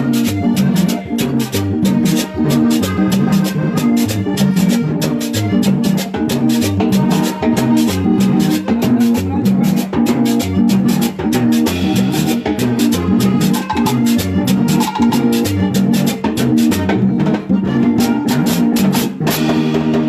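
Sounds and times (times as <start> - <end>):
button accordion playing dance tune: 0.0 - 20.0
conga drums and percussion: 0.0 - 20.0.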